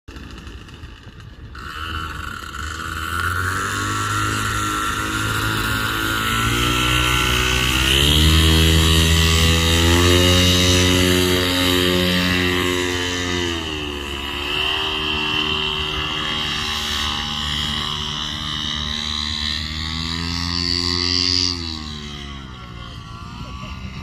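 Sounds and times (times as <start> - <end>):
paramotor engine revving: 0.1 - 24.0.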